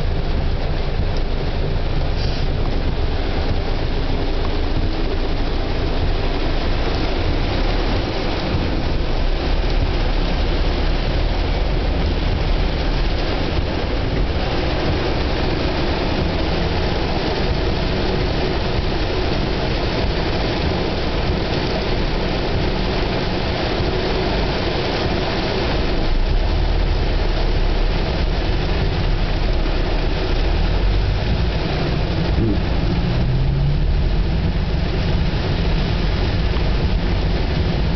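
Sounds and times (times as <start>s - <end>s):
heavy rain on car roof: 0.0s - 37.9s
low car rumble: 0.0s - 37.9s.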